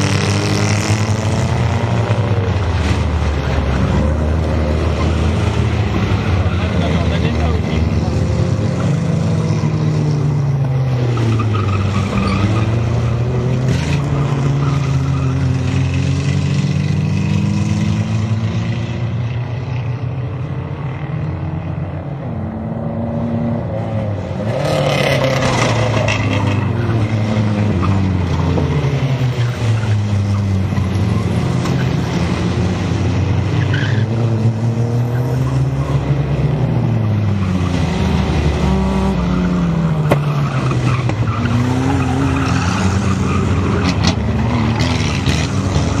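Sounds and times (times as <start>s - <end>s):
race car engines revving: 0.0s - 46.0s.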